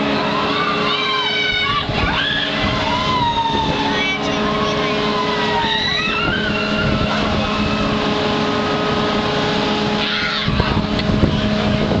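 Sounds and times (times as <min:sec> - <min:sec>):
ride machinery humming: 0:00.0 - 0:12.0
wind rushing on microphone: 0:01.5 - 0:12.0.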